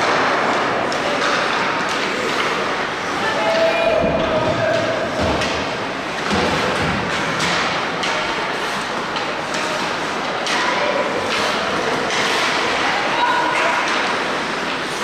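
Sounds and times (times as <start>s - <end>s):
hockey sticks and puck knocking: 0.0s - 2.8s, 4.0s - 14.9s
steady background noise: 0.0s - 15.0s.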